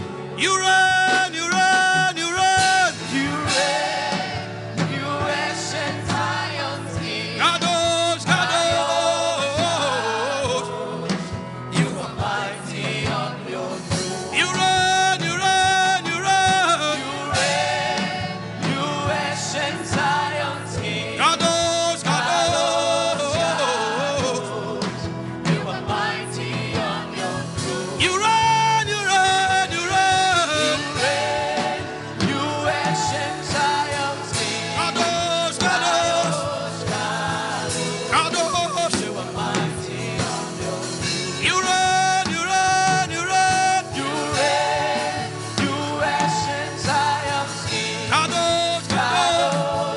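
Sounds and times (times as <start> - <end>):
gospel music: 0.0 - 49.9.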